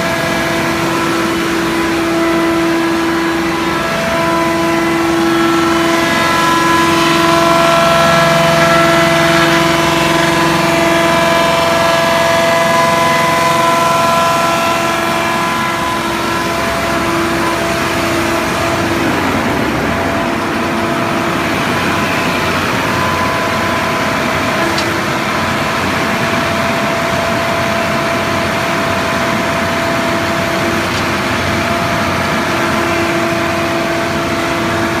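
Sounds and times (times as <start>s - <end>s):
wood crusher grinding wood: 0.0s - 35.0s.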